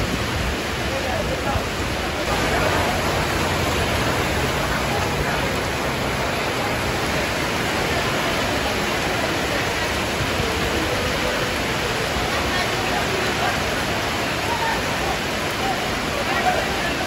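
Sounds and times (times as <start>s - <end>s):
heavy rain: 0.0s - 17.0s
rushing floodwater: 0.0s - 17.0s.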